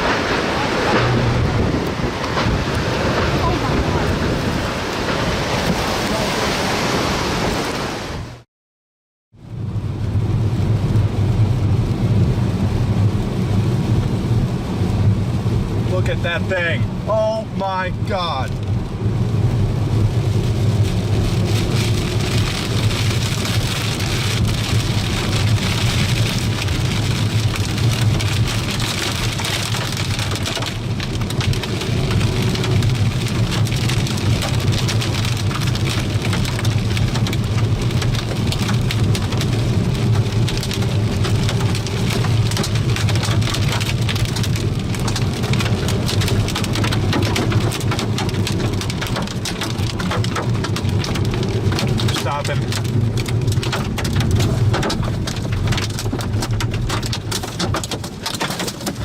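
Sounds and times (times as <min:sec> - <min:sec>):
low rumble: 0:00.0 - 0:05.7, 0:09.4 - 0:57.3
heavy rain on hard surfaces: 0:00.0 - 0:08.5, 0:09.3 - 0:59.0.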